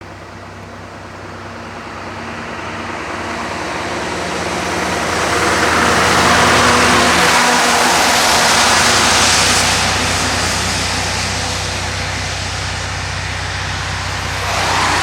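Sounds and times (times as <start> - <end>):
truck engine running: 0.2 - 15.0.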